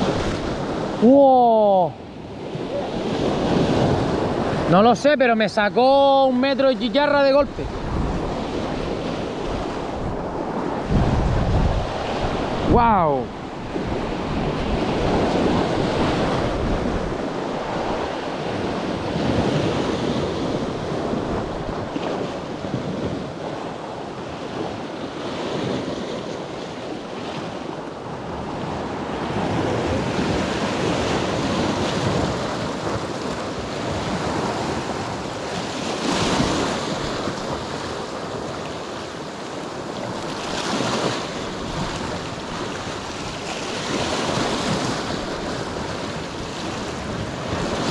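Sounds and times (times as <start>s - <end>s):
waves washing over rocks: 0.0s - 47.9s
wind buffeting microphone: 7.0s - 26.9s, 27.6s - 47.9s.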